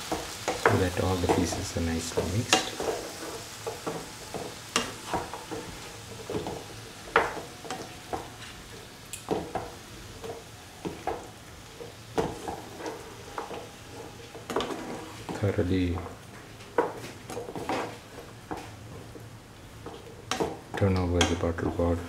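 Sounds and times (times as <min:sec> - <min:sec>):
spatula scraping and knocking pan: 0:00.0 - 0:19.2, 0:19.8 - 0:21.9
light sizzle of frying: 0:00.0 - 0:22.0.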